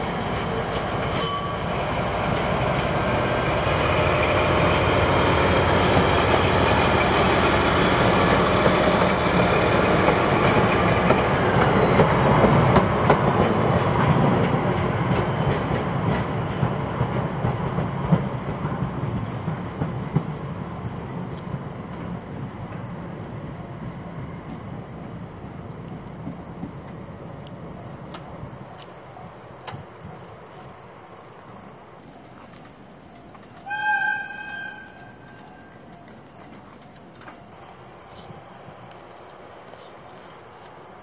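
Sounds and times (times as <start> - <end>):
train rumble: 0.0 - 41.0
wheels clicking over rail joints: 0.2 - 3.5, 5.7 - 23.0, 26.2 - 41.0.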